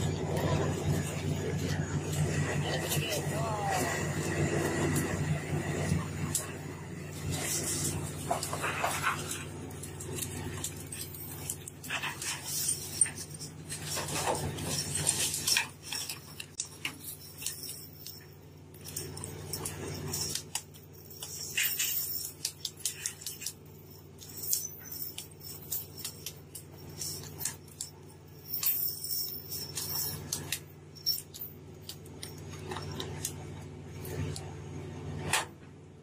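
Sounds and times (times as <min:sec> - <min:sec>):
low hum of ship machinery: 0:00.0 - 0:36.0.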